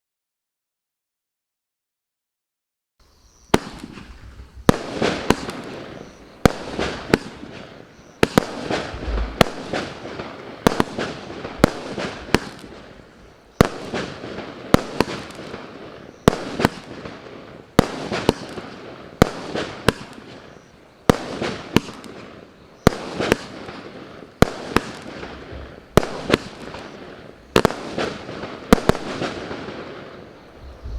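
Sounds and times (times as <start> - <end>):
firework bangs: 3.5 - 30.9.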